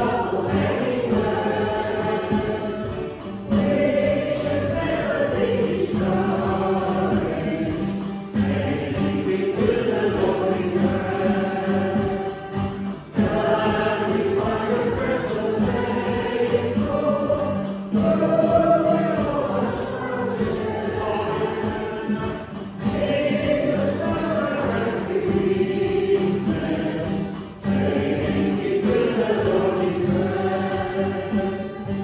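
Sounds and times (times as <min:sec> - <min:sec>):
congregation singing a hymn: 0:00.0 - 0:32.0.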